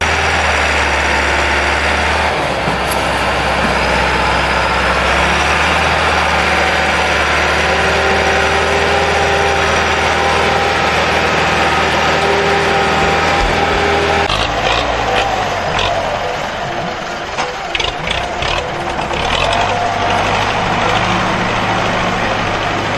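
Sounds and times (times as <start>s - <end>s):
diesel tractor engine running: 0.0s - 22.9s.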